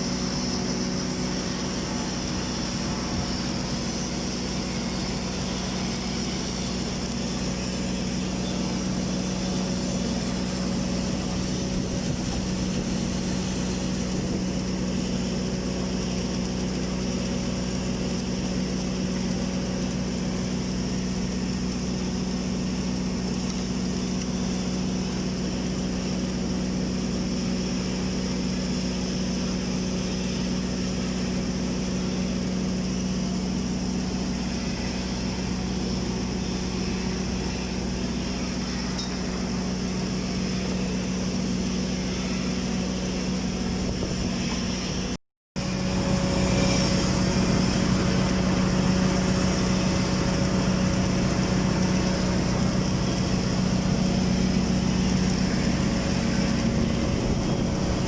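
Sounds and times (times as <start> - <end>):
welding machine hum: 0.0 - 58.0.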